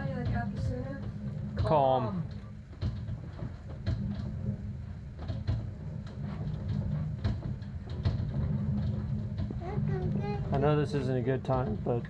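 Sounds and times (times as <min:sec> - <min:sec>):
knocks and bangs from house: 0:00.0 - 0:02.0, 0:02.7 - 0:10.9.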